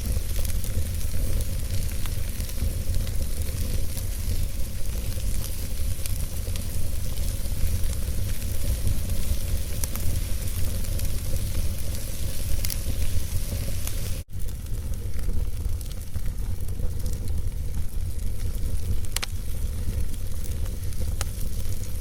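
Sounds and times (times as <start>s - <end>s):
logs crackling and popping: 0.0s - 22.0s
wood fire burning: 0.0s - 22.0s.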